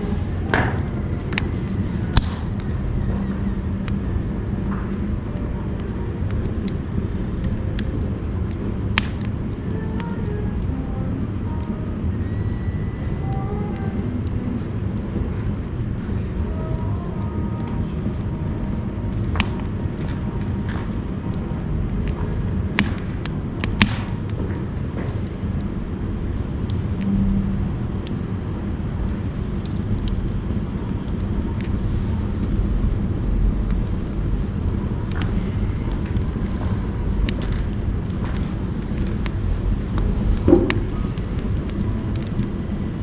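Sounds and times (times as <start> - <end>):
fire rumbling in wood stove: 0.0 - 43.0
firewood crackling and popping: 0.0 - 43.0.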